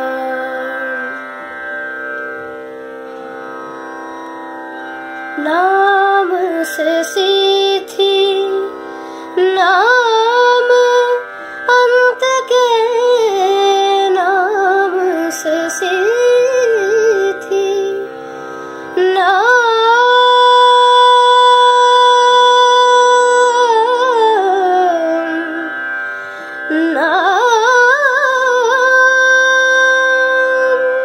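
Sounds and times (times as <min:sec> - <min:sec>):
person singing long ornamented notes: 0:00.0 - 0:01.4, 0:05.4 - 0:18.2, 0:18.9 - 0:31.0.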